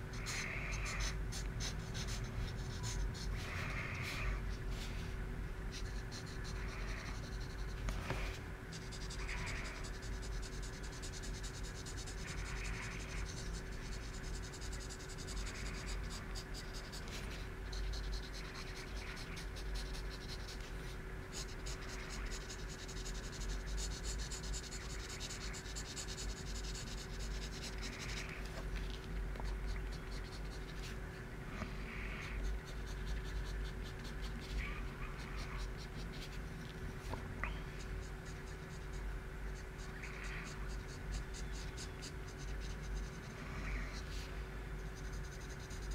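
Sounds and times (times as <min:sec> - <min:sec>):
pencil scratching on paper: 0:00.0 - 0:05.0, 0:05.7 - 0:28.3, 0:29.4 - 0:31.0, 0:32.1 - 0:36.6, 0:37.7 - 0:44.2, 0:44.8 - 0:45.9
steady low hum: 0:00.0 - 0:45.9.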